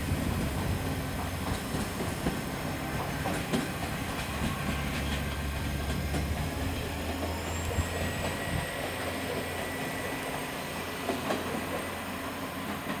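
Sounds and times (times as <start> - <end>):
diesel railcar engine drone: 0.0 - 13.0
wheels clicking over rail joints: 0.0 - 13.0.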